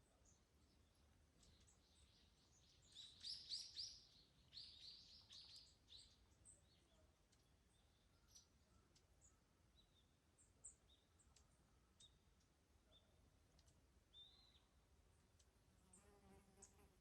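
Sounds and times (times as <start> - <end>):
faint bird chirps: 0.0 - 14.8
faint songbird song: 0.0 - 17.0.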